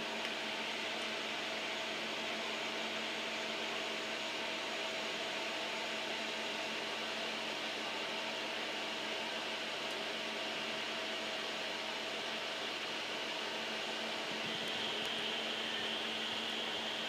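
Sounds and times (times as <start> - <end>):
cooling fan air rush: 0.0 - 17.0
faint steady hum: 0.0 - 17.0.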